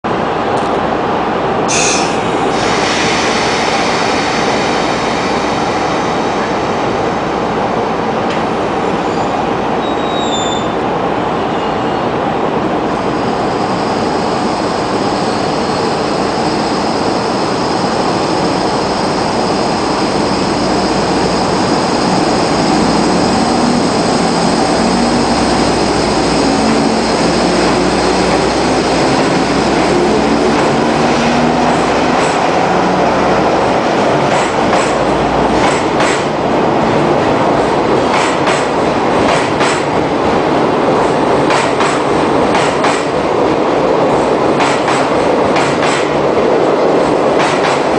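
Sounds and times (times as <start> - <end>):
train rumbling: 0.1 - 47.9.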